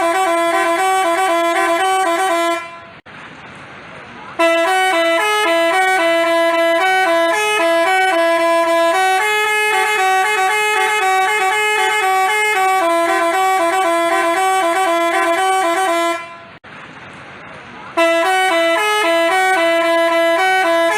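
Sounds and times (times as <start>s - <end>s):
bus horn playing quick tune: 0.0s - 3.0s, 4.4s - 16.6s, 18.0s - 20.9s.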